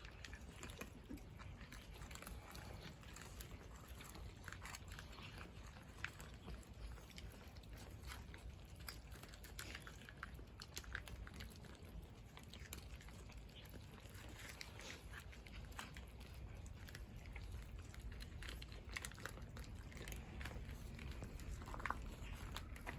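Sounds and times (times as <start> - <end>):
cats chewing food: 0.0 - 22.9
low background hum: 0.0 - 22.9.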